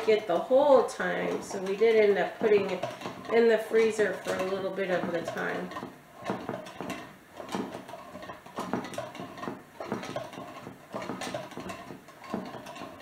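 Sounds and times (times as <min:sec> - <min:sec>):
butter churn rattling: 0:00.0 - 0:13.0
churn crank clacking: 0:00.0 - 0:13.0.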